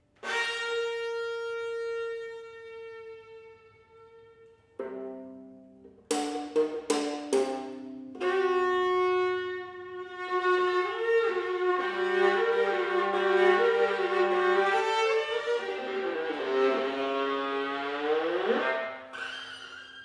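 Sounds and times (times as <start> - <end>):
bowed viola melody: 0.0 - 20.0.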